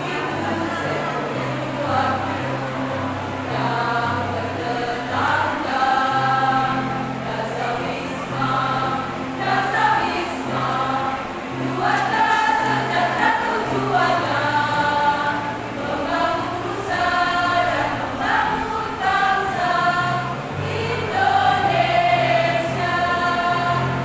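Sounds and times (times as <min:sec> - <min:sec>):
women's choir singing: 0:00.0 - 0:24.0.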